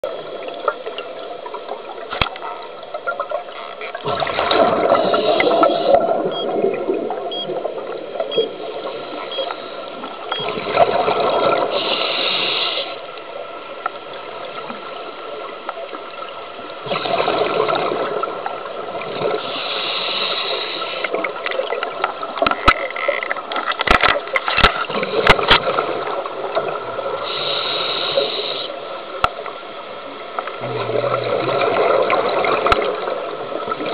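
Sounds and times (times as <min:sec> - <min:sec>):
underwater water noise: 0:00.0 - 0:33.9.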